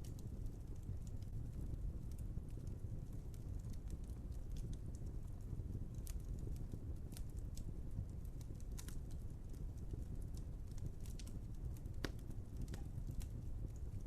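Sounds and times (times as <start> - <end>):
fire popping and snapping: 0.0 - 14.0
fire rumbling: 0.0 - 14.0.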